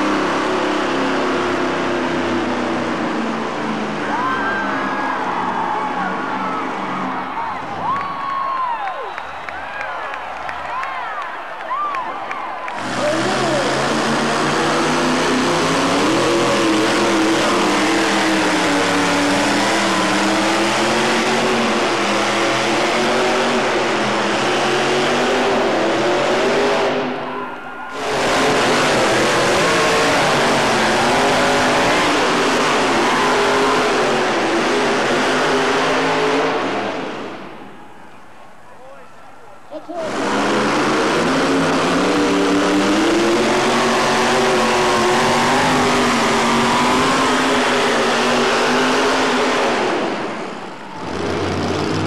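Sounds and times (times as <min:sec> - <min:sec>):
pickup engine at full throttle: 0:00.0 - 0:08.0, 0:12.7 - 0:27.2, 0:27.9 - 0:37.7, 0:39.9 - 0:52.0.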